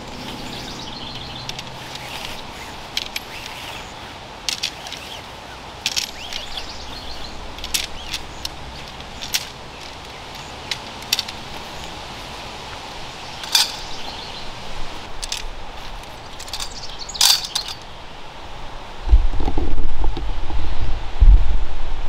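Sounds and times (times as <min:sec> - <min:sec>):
tent fabric rustling: 0:00.0 - 0:17.8
tent poles clicking: 0:00.0 - 0:17.9.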